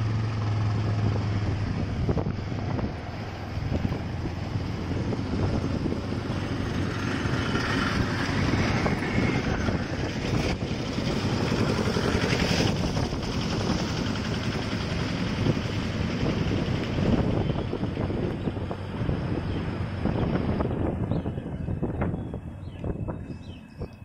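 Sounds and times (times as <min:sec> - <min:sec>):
motorcycle engine: 0:00.0 - 0:24.0
tyres on road: 0:00.0 - 0:24.0
wind rushing on microphone: 0:00.0 - 0:24.0.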